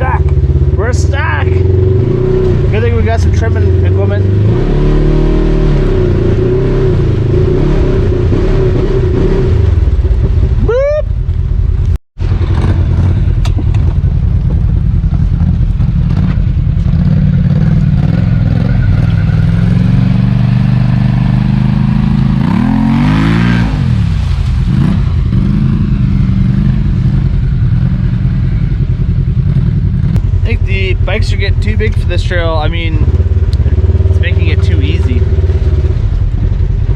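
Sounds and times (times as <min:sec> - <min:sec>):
off-road vehicle engine revving: 0:00.0 - 0:10.7, 0:12.2 - 0:36.9.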